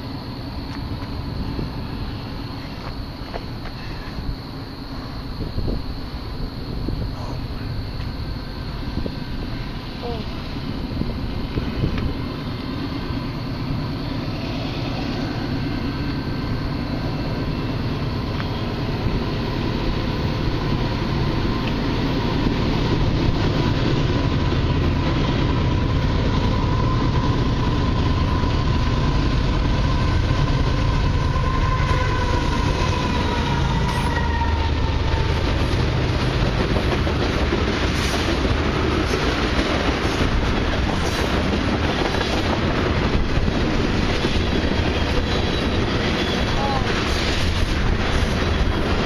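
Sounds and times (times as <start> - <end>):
diesel locomotive engines: 0.0 - 49.0
train whine: 0.0 - 49.0.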